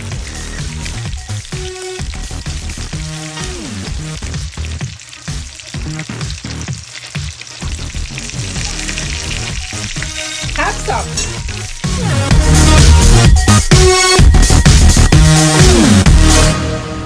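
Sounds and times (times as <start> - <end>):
music playing: 0.0 - 4.6, 5.3 - 17.0
fish sizzling in hot oil: 0.0 - 16.5.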